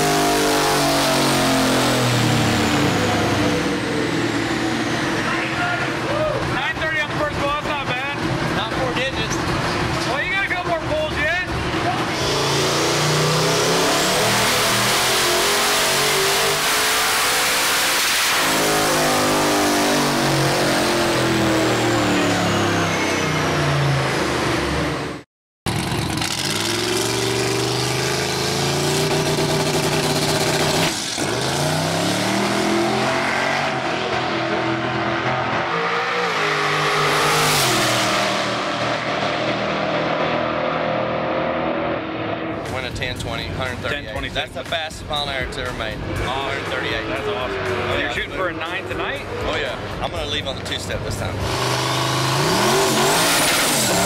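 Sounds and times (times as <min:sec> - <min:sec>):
truck accelerating through gears: 0:00.0 - 0:10.1, 0:11.4 - 0:44.0, 0:45.6 - 0:54.0
truck engine at full throttle: 0:00.0 - 0:54.0.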